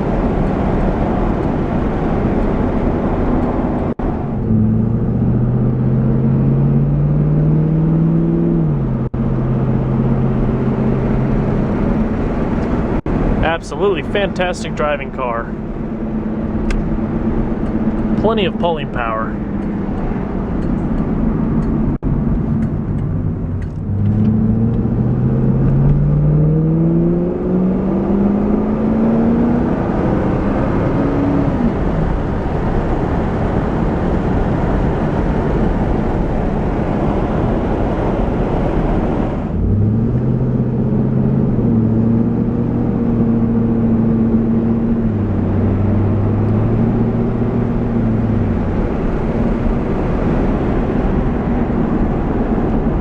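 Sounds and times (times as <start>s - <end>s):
car engine accelerating: 0.0s - 53.0s
road and wind noise: 0.0s - 53.0s.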